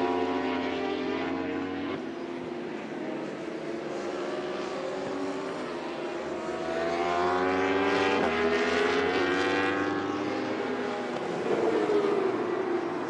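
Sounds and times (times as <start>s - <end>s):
racing motorcycles revving: 0.0s - 13.0s.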